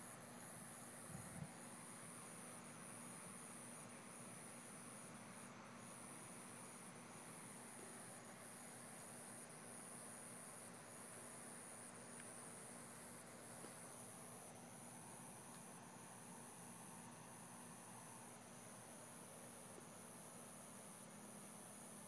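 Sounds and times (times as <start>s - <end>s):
low hiss: 0.0s - 22.0s
night insects trilling: 0.0s - 22.0s.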